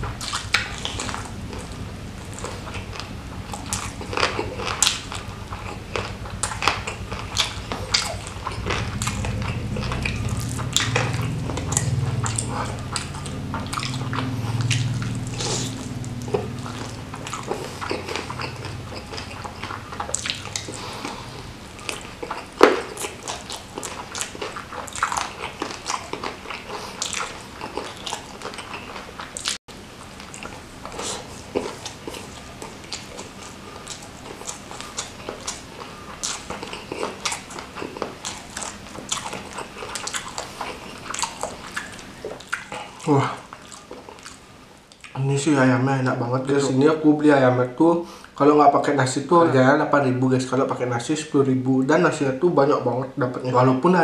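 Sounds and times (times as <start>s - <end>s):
close-miked chewing with crunches: 0.0s - 45.4s.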